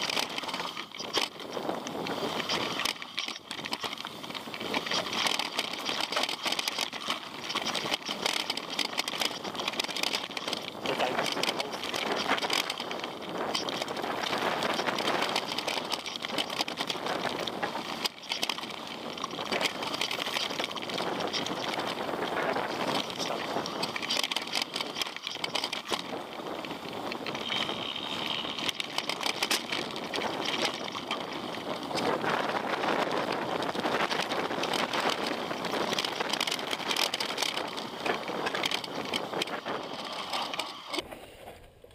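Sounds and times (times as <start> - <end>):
bike tyres rolling over rocks: 0.0 - 41.8.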